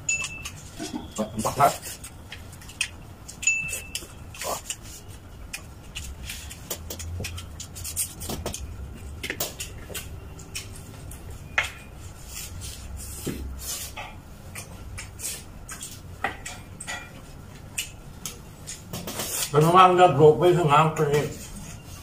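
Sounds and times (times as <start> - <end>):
people chewing: 0.0 - 19.8.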